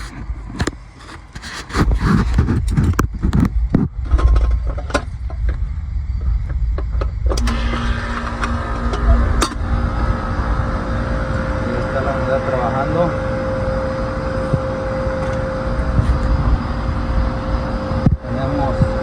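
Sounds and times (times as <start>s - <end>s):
air conditioner humming: 3.5s - 19.0s.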